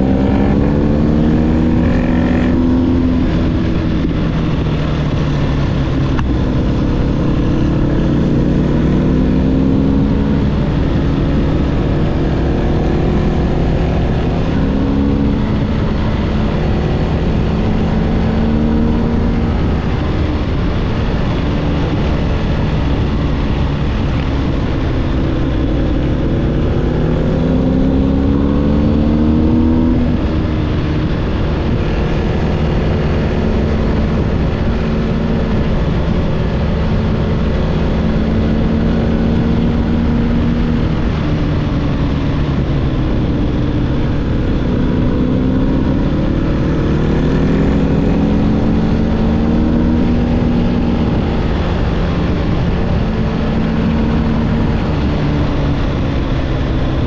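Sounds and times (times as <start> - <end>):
motorcycle engine: 0.0 - 57.0
wind noise: 0.0 - 57.0.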